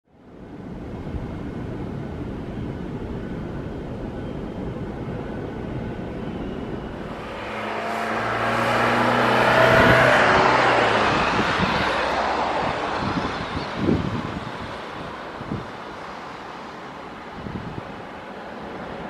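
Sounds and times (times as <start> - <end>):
jet engines roaring with whine: 0.1 - 19.0.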